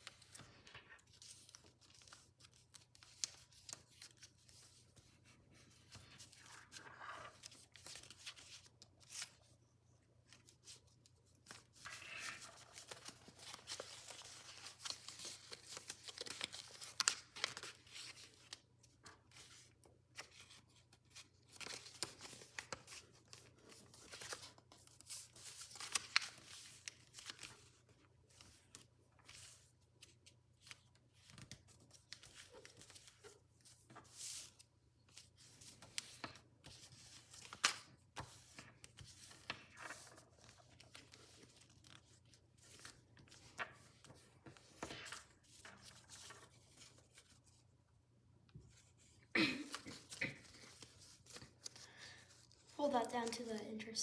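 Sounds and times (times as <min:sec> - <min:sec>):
paper rustling and crinkling: 0:00.0 - 0:09.6, 0:10.2 - 0:47.7, 0:48.6 - 0:53.9.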